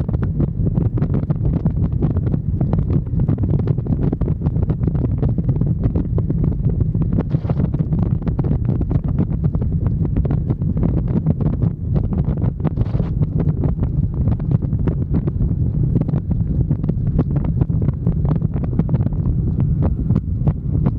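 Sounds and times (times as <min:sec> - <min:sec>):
motorcycle engine drone: 0:00.0 - 0:20.9
wind buffeting microphone: 0:00.0 - 0:20.9.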